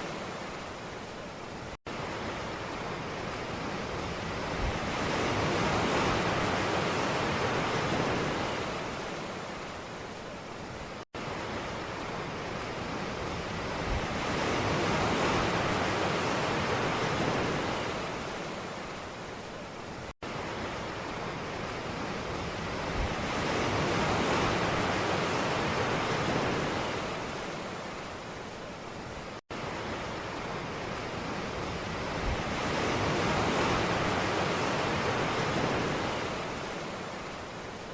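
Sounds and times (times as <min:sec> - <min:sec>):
ocean waves breaking on shore: 0:00.0 - 0:37.9.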